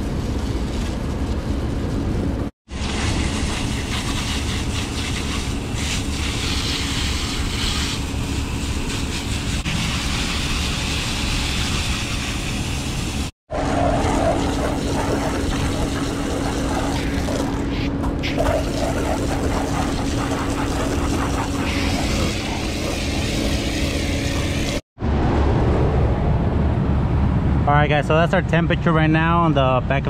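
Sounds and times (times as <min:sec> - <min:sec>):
hvac fans and airflow rumble: 0:00.0 - 0:30.0
steady low hum: 0:00.0 - 0:30.0.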